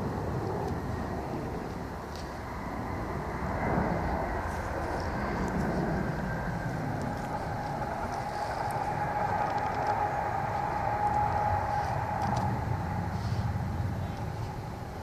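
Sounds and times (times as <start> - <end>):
mechanical rumble with hum: 0.0 - 15.0.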